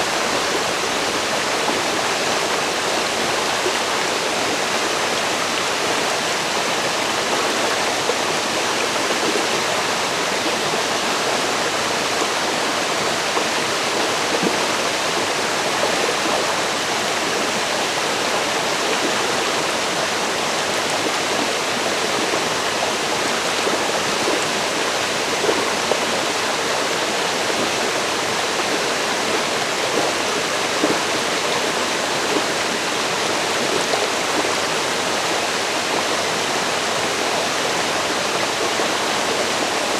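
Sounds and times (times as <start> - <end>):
river water rushing over rocks: 0.0 - 39.9
water splashes and gurgles: 0.0 - 39.9.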